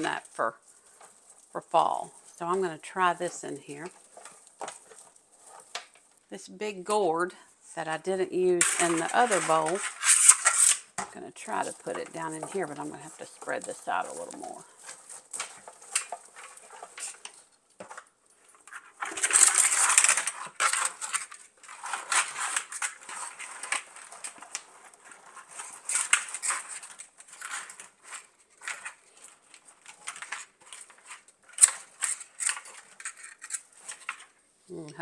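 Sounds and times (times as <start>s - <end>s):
dried plant rustling: 0.0s - 34.9s.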